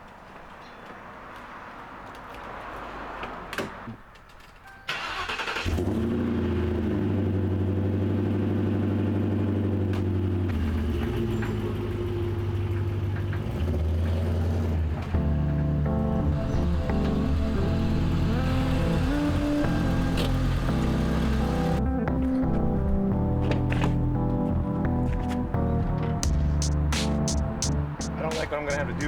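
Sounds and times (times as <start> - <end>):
car engine cranking and idling: 4.2 - 29.0.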